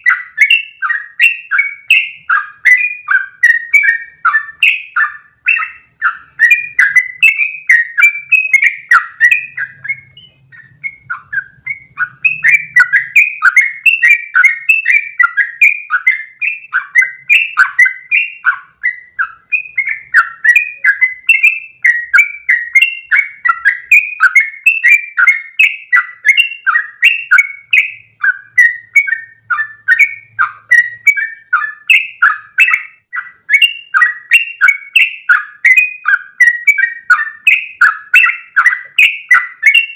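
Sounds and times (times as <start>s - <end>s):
bird singing bubbling warbling notes: 0.0s - 39.9s.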